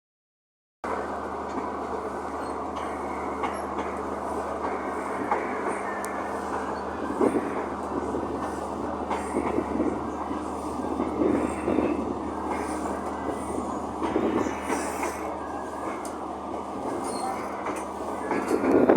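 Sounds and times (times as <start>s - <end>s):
train rumble from on board: 0.8s - 18.9s.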